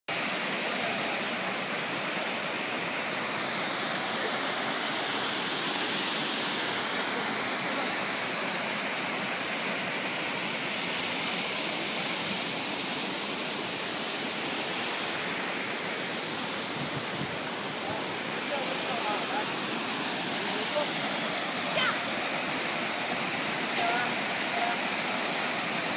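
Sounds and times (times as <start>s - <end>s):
waterfall rushing: 0.1s - 25.9s.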